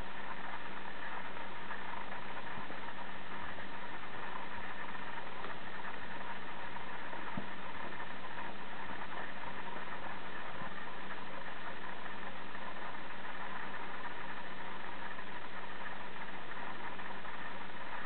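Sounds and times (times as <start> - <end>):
constant hiss: 0.0 - 18.0
steady hum: 0.0 - 18.0.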